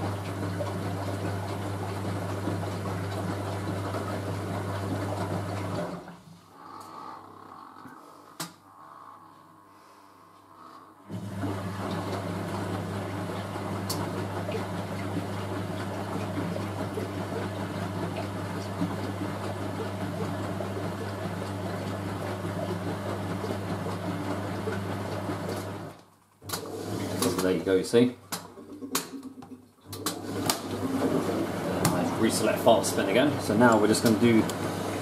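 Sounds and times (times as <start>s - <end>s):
washing machine humming: 0.0s - 8.8s, 10.4s - 35.0s.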